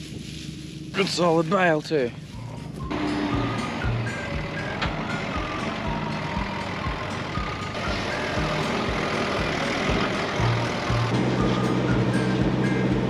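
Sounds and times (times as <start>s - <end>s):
tractor diesel engine running: 0.0s - 13.0s
background music: 1.8s - 13.0s.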